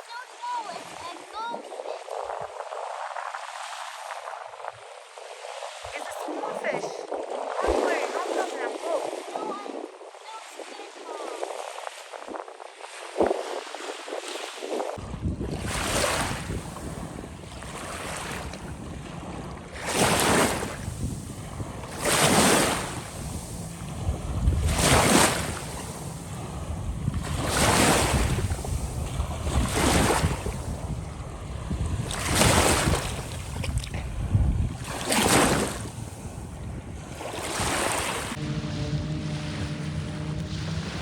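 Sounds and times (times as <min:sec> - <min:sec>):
sea waves washing in: 0:00.0 - 0:41.0
wind rumble on microphone: 0:00.5 - 0:41.0.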